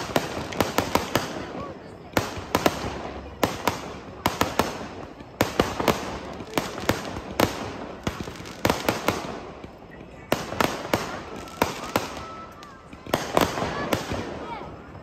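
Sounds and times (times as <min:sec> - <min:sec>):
fireworks bangs: 0:00.0 - 0:15.0
fireworks crackling and hissing: 0:00.0 - 0:15.0.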